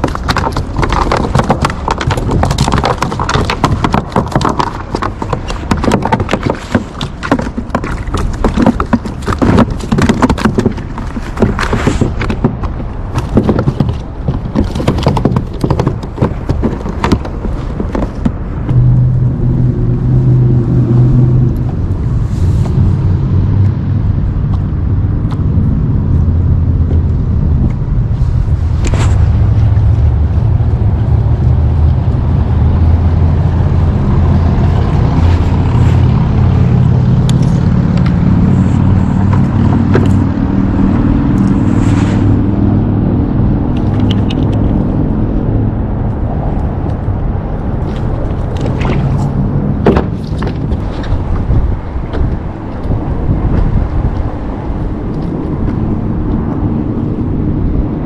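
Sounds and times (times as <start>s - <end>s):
low rumble of road traffic: 0.0s - 58.0s.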